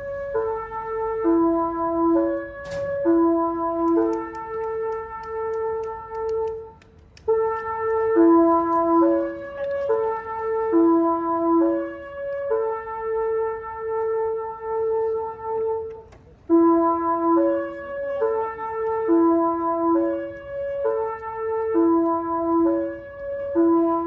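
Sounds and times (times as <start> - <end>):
train music horn melody: 0.0 - 24.0.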